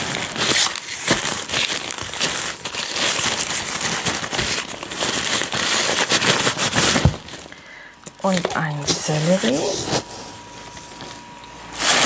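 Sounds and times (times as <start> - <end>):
plastic and paper packaging rustling: 0.0 - 12.0.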